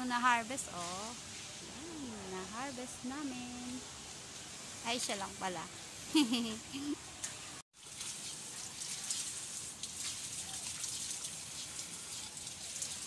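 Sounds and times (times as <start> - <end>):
falling water hiss: 0.2 - 13.0.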